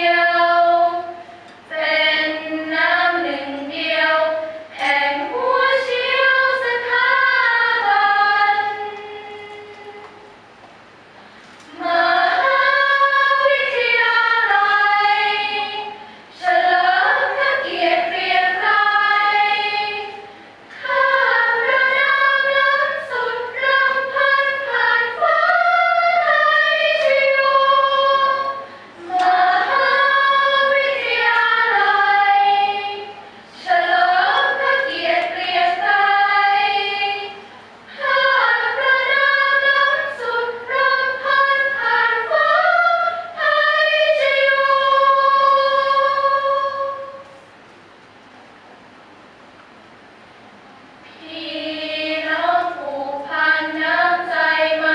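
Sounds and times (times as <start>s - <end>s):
women's choir singing in harmony: 0.0s - 10.4s, 11.6s - 47.5s, 51.0s - 54.9s.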